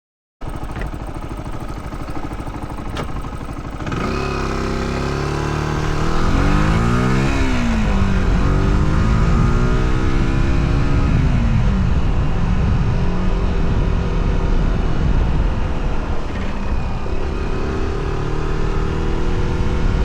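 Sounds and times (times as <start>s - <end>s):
motorcycle engine pulling away: 0.4s - 20.0s.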